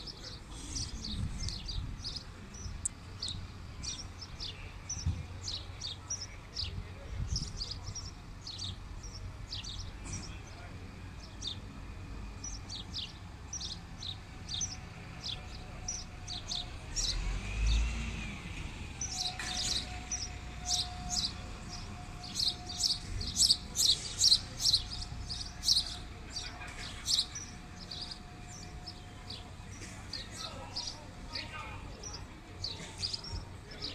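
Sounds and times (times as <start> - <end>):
low hum of buses: 0.0 - 33.9
small birds chirping: 0.0 - 33.9.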